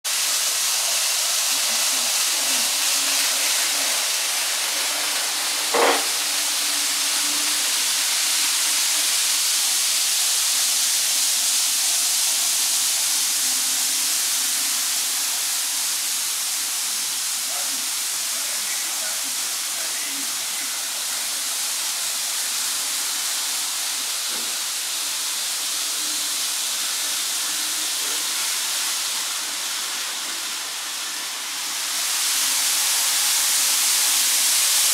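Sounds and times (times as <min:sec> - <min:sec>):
model trains humming: 0:00.1 - 0:34.9
room noise hiss: 0:00.1 - 0:34.9.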